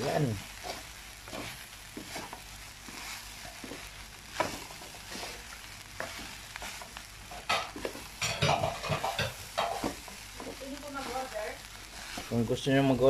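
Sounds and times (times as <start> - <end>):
fried rice sizzling in a wok: 0.0 - 13.0
spatula scraping and knocking pan: 0.0 - 13.0.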